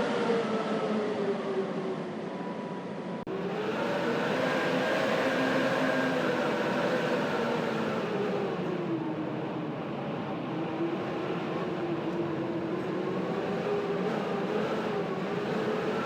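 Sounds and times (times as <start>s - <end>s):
blizzard wind rushing: 0.0s - 16.0s
whistling wind tones: 0.0s - 16.0s.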